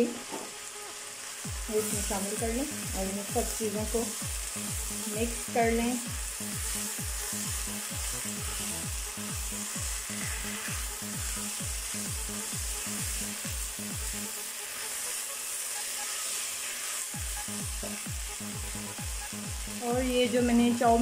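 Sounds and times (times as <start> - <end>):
vegetables sizzling in a wok: 0.0 - 21.0
spatula stirring vegetables: 0.2 - 21.0.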